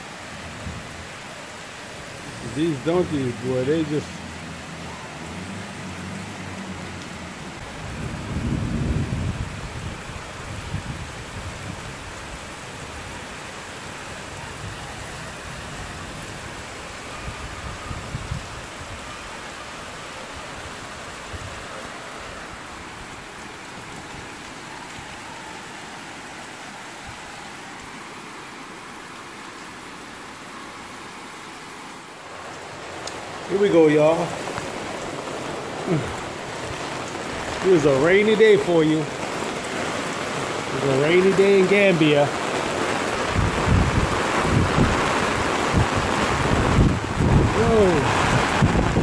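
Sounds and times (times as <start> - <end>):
steady rain hiss: 0.0 - 49.0.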